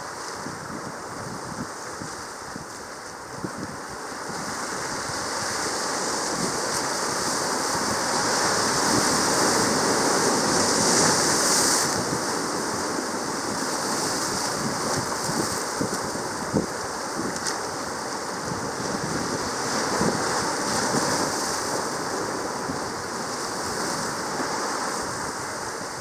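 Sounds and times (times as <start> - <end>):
rushing sea water: 0.0 - 26.0.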